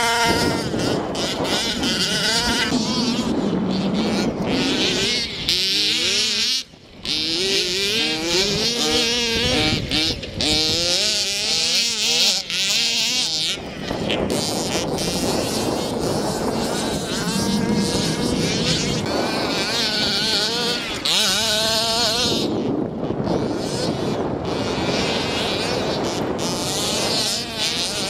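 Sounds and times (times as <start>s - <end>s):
small engines revving: 0.0s - 28.0s.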